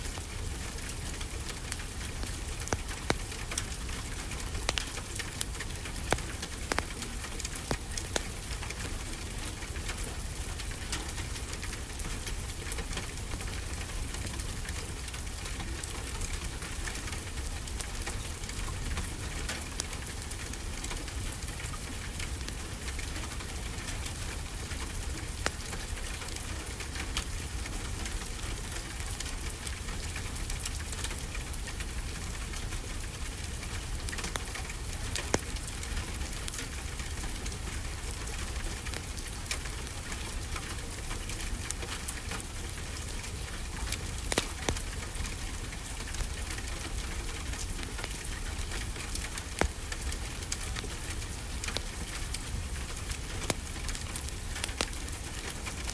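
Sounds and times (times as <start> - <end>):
steady rainfall: 0.0 - 55.9
wood fire crackling: 0.0 - 55.9.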